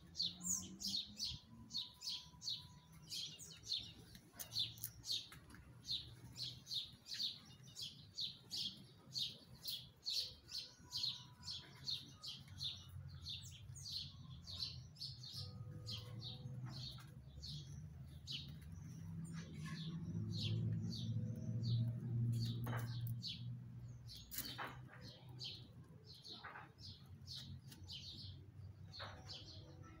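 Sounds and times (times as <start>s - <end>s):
small bird chirping: 0.0s - 30.0s.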